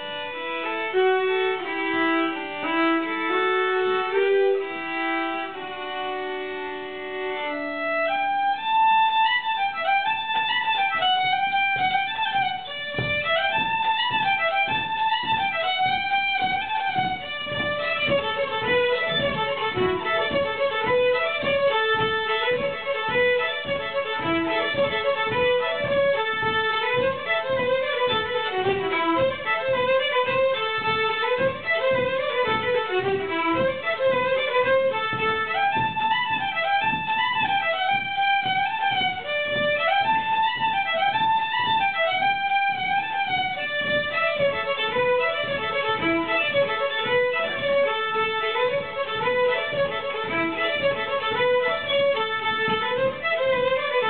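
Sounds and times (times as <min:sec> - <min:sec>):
two fiddles playing folk duet: 0:00.0 - 0:54.0.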